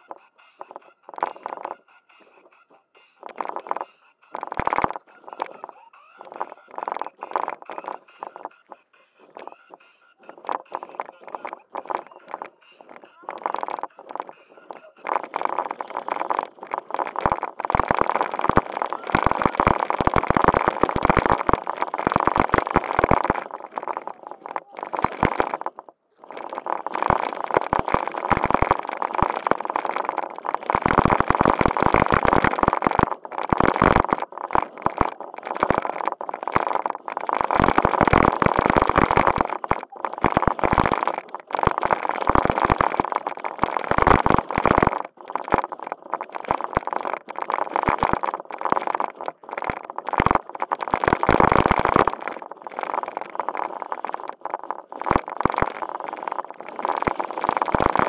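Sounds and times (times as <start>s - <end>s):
wheels over dirt and gravel: 9.4s - 58.0s.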